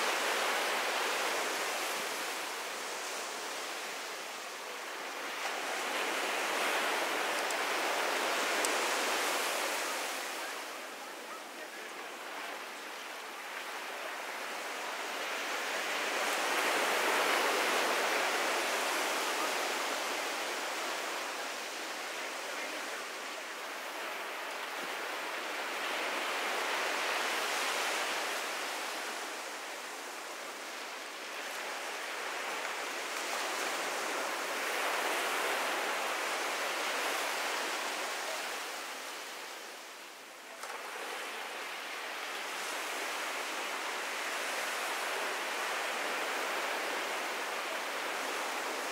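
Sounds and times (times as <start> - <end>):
ocean surf breaking on beach: 0.0 - 48.9.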